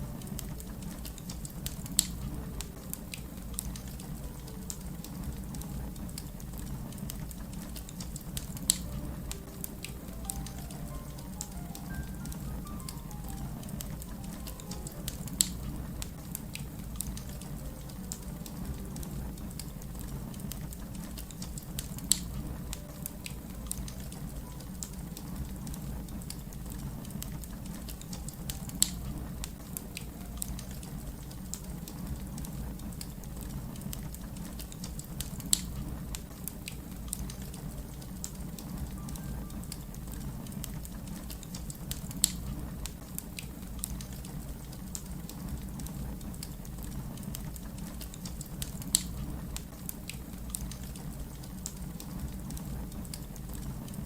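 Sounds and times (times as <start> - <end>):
fire crackling: 0.0 - 54.0
fire popping: 0.0 - 54.0.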